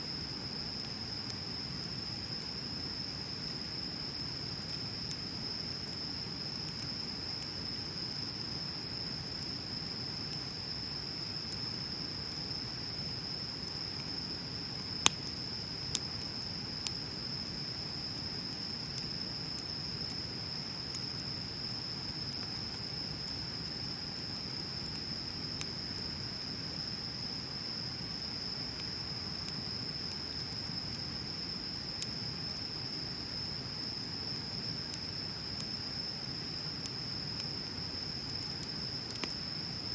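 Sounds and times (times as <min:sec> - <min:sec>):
bonfire burning: 0:00.1 - 0:39.9
fire crackling and popping: 0:00.1 - 0:39.9.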